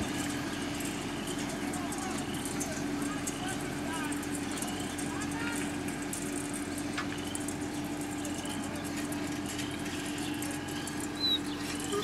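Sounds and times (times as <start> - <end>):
birds chirping: 0.0 - 12.0
low mechanical hum: 0.0 - 12.0.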